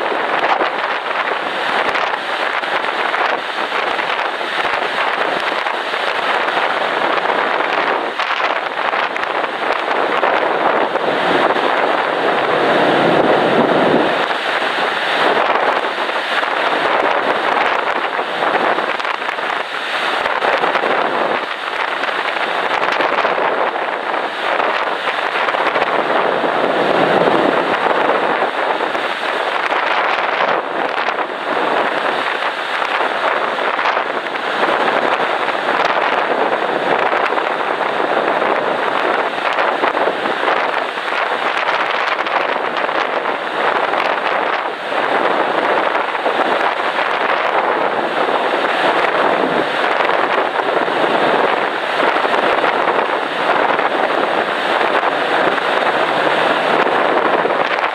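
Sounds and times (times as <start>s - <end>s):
sea wash: 0.0s - 57.9s
wind rushing over microphone: 0.0s - 57.9s.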